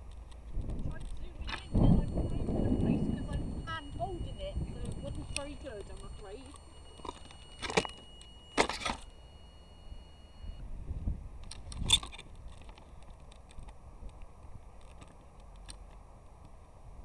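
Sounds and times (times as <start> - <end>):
small ticks and rustles: 0.0 - 8.4, 11.4 - 16.7.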